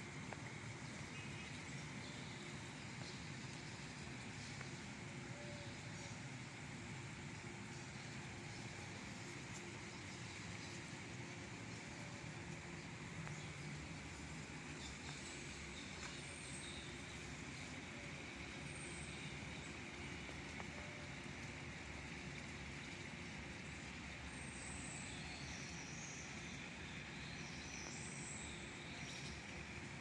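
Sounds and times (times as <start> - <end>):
faint outdoor hiss: 0.0 - 30.0.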